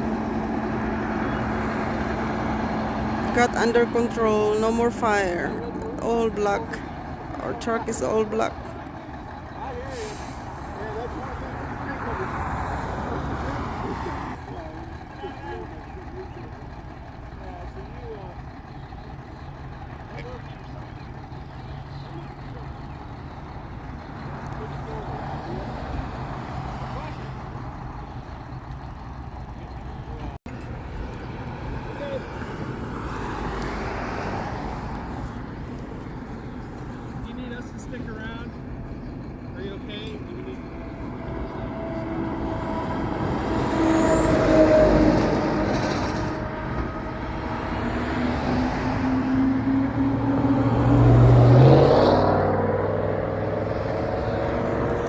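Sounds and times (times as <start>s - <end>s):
large vehicle engine idling: 0.0s - 51.0s
roadside noise: 0.0s - 55.0s.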